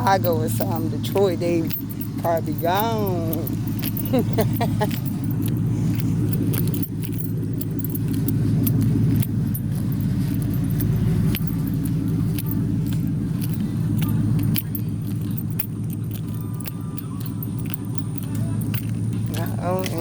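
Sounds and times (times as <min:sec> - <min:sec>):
car engine idling: 0:00.0 - 0:20.0
keys jangling: 0:00.0 - 0:20.0.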